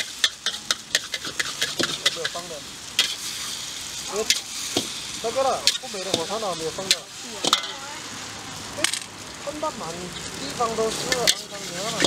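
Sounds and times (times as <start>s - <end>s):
metal spatula scraping a wok: 0.0s - 7.8s, 10.1s - 12.0s
noodles sizzling in a wok: 0.0s - 12.0s.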